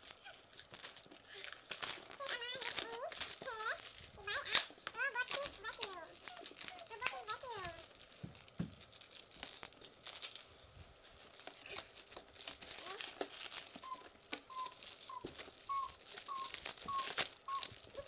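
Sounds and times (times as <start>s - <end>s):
plastic crinkling and clicking: 0.0s - 18.0s.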